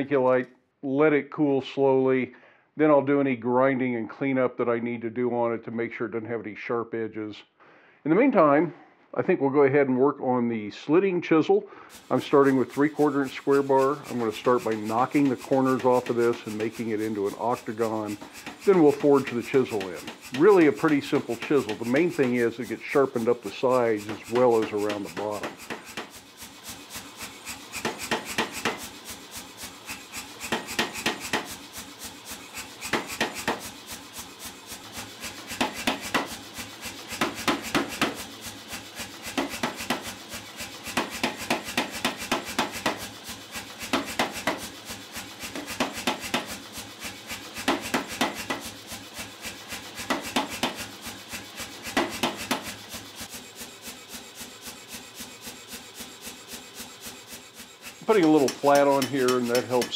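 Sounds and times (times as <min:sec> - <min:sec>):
power hammer striking hot steel: 0:11.9 - 0:59.9.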